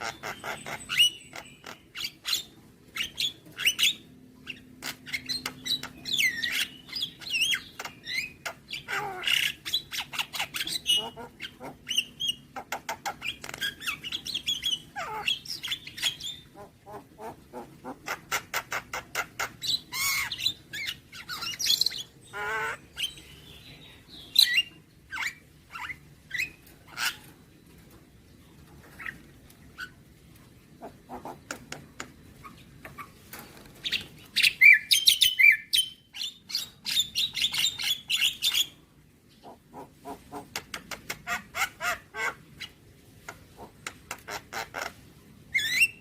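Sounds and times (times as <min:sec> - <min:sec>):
myna bird singing: 0:00.0 - 0:27.9, 0:30.6 - 0:44.9, 0:45.5 - 0:46.0.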